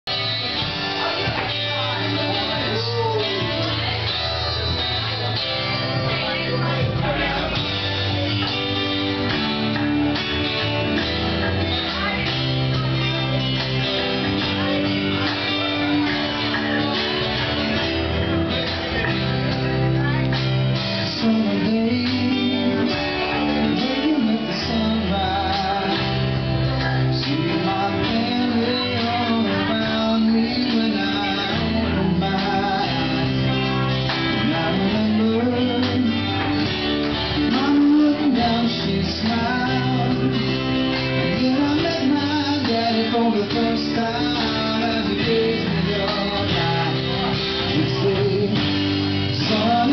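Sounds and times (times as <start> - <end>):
live band playing: 0.0 - 49.9
strummed acoustic guitar: 0.1 - 49.9.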